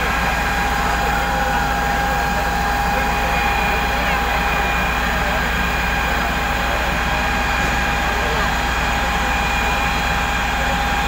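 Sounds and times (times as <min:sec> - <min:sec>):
fire engine pump whining: 0:00.0 - 0:11.0.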